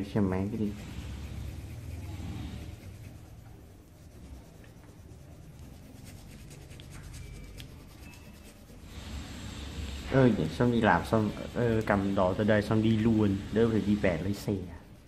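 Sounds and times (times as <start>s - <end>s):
low steady hum: 0.0s - 15.0s
pen scratching on paper: 0.0s - 15.0s.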